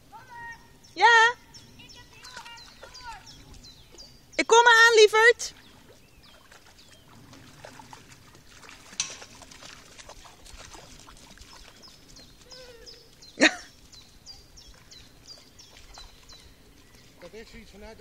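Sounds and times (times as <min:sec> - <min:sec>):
faint water splashing: 0:00.0 - 0:18.0.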